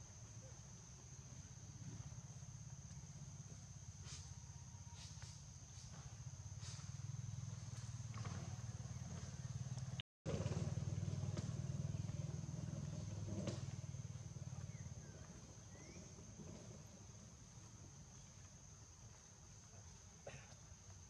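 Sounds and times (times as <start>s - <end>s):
high insect drone: 0.0s - 21.0s
low engine rumble: 1.3s - 19.7s.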